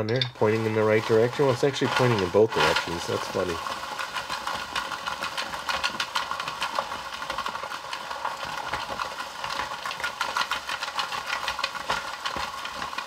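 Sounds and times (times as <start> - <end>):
hand-cranked ice cream maker turning: 0.0 - 13.0
ice cubes rattling in plastic bowl: 0.0 - 13.0.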